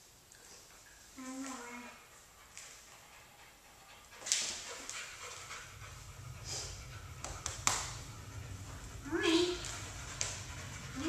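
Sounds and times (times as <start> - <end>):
dog panting: 0.4 - 11.0.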